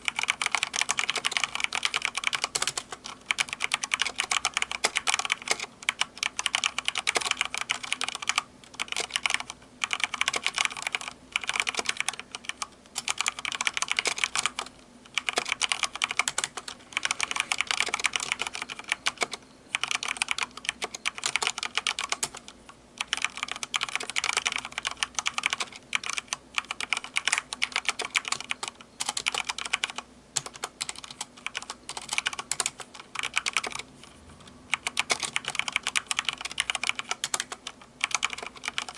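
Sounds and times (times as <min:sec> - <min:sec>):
mechanical keyboard typing: 0:00.0 - 0:33.9, 0:34.7 - 0:38.9.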